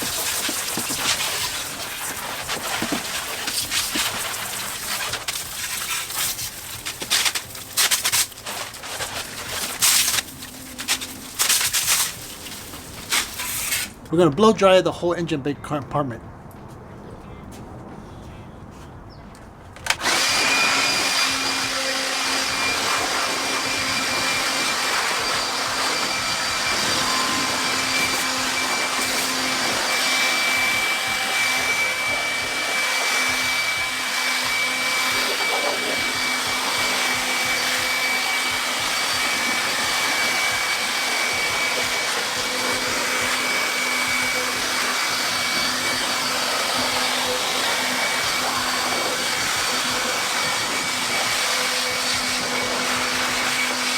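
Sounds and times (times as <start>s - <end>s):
electric blower running: 0.0s - 14.1s, 19.8s - 53.9s.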